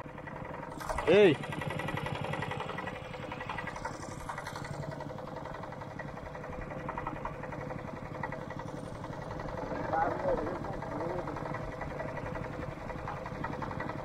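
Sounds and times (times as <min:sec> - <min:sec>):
small outboard engine running: 0:00.0 - 0:14.0.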